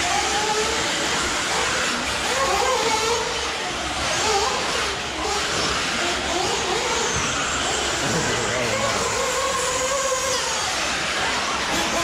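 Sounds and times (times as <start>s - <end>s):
rc car motor whine: 0.0s - 12.0s.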